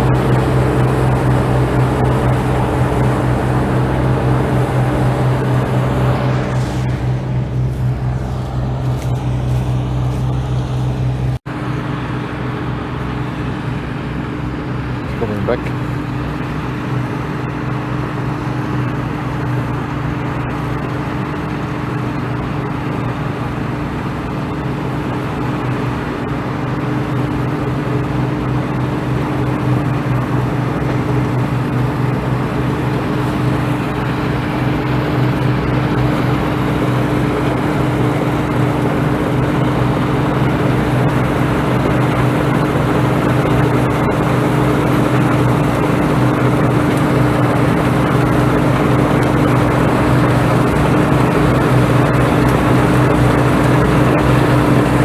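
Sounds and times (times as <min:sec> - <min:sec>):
farm machine engine humming: 0:00.0 - 0:55.0.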